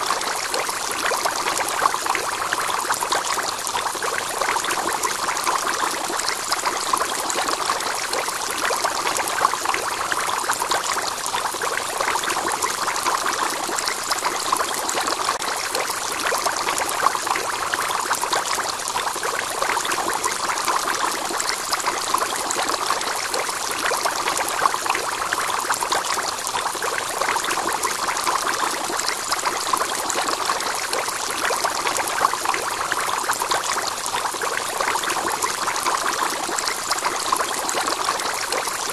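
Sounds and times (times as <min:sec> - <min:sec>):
aquarium water trickling: 0:00.0 - 0:38.9.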